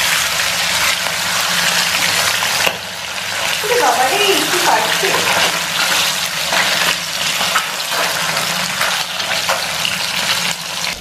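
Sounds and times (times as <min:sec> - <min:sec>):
fish sizzling in hot oil: 0:00.0 - 0:11.0
oil crackling and popping: 0:00.0 - 0:11.0.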